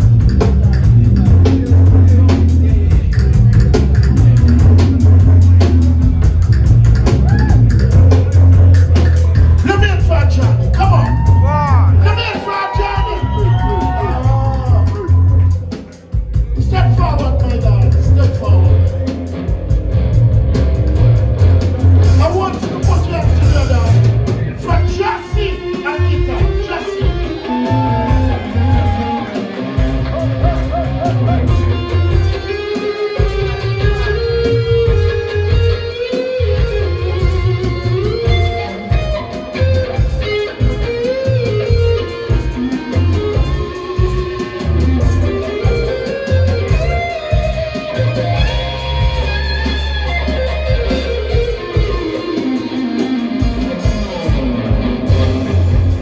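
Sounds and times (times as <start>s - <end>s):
reggae band playing: 0.0s - 56.0s.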